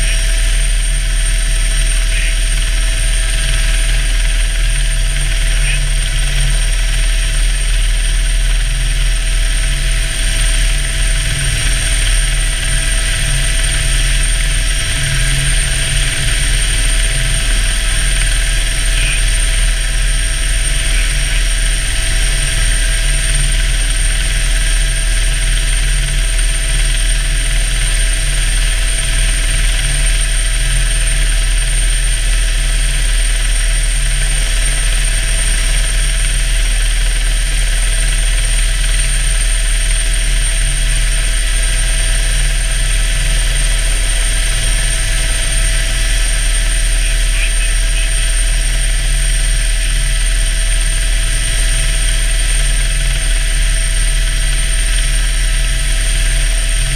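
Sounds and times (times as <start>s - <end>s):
helicopter rotor drone: 0.0s - 56.9s
high whine: 0.0s - 56.9s.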